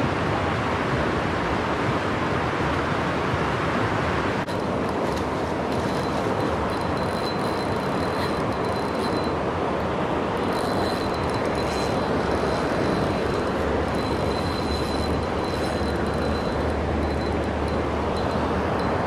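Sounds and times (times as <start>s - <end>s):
river water rushing over rocks: 0.1s - 19.0s.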